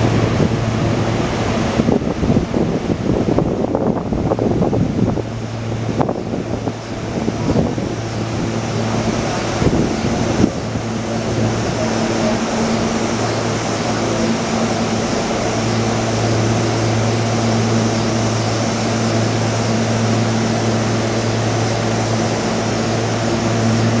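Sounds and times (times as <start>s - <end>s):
fan-like hiss: 0.0s - 24.0s
train equipment low hum: 0.0s - 24.0s.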